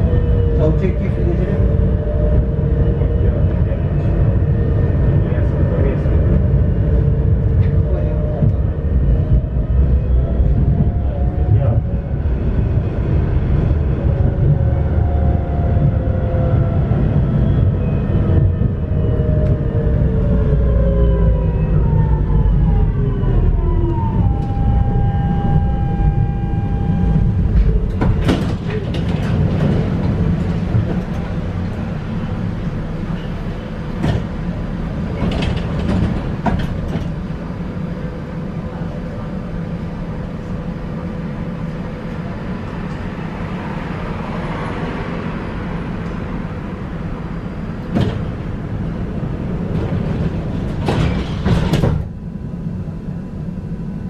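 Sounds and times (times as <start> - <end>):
tram motor whine: 0.0 - 54.0.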